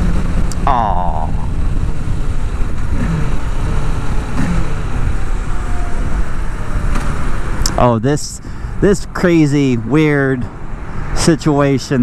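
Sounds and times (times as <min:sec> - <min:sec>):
motorcycle engine rumbling: 0:00.0 - 0:12.0
road noise: 0:00.0 - 0:12.0
wind: 0:00.0 - 0:12.0.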